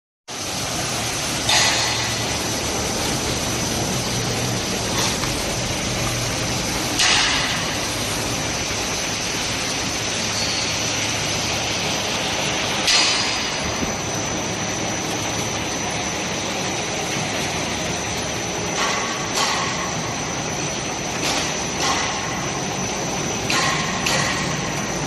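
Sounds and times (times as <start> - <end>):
machine noise bursts: 0.3 - 25.0
die-cutting machine running: 0.4 - 25.0.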